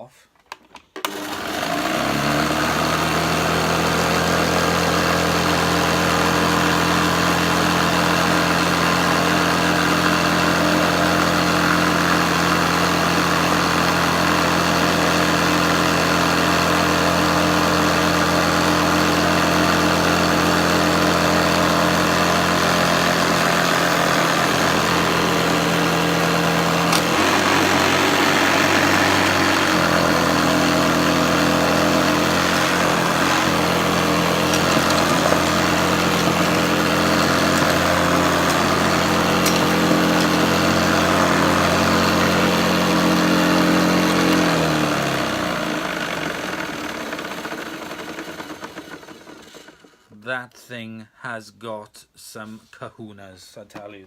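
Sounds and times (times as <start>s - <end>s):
vacuum cleaner motor running: 1.0s - 50.1s.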